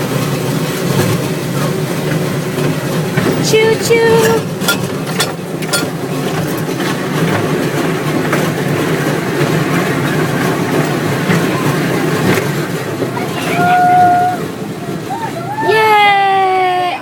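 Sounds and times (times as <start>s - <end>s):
ride train cars rumbling: 0.0s - 17.0s.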